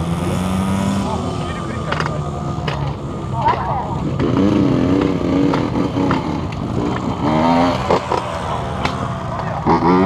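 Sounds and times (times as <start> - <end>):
dirt bike engine running: 0.0 - 10.0
voices: 0.8 - 10.0.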